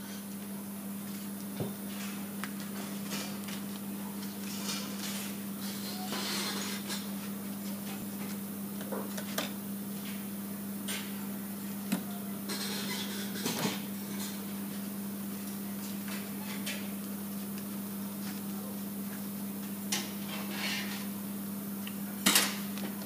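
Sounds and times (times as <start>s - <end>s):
low electric hum: 0.0s - 23.0s.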